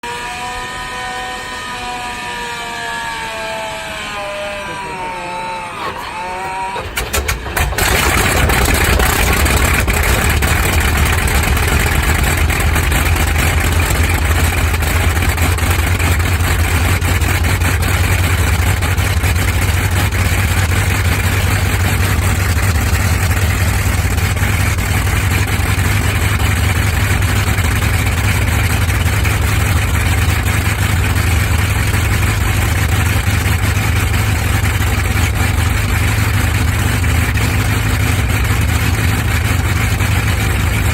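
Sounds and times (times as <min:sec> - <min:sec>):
propeller aircraft engine: 0:00.0 - 0:40.9.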